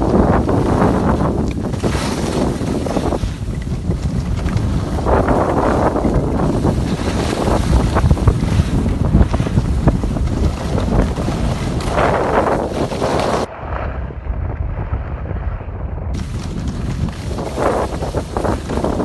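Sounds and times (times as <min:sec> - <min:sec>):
skis scraping over snow: 0:00.0 - 0:13.5, 0:16.2 - 0:19.0
wind buffeting microphone: 0:00.0 - 0:19.0.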